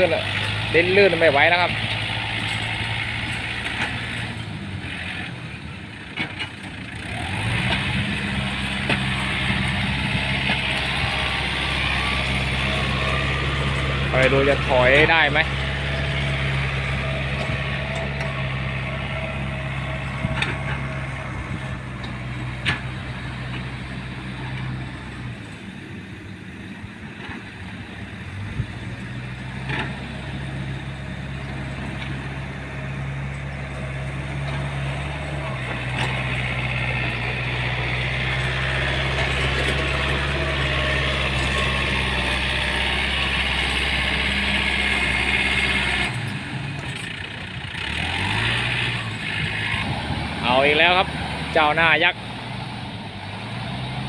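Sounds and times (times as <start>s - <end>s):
heavy vehicle engine under load: 0.0s - 54.0s.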